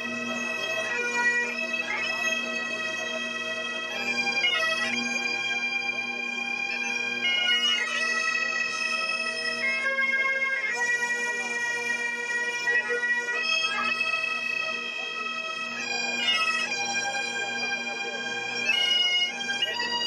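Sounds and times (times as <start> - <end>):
bagpipes playing a tune: 0.0 - 20.0.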